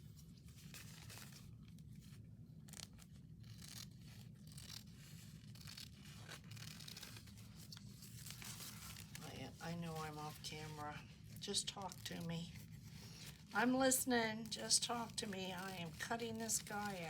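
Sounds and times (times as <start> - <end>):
low background hum: 0.0 - 17.0
scissors cutting paper napkin: 2.7 - 17.0.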